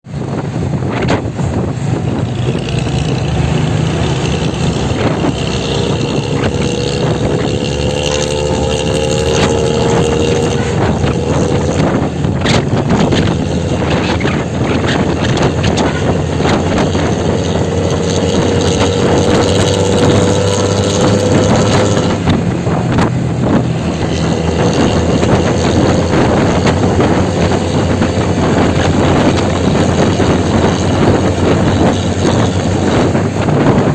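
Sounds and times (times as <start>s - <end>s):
car engine through loud exhaust: 0.0s - 33.9s
wind buffeting microphone: 0.0s - 33.9s.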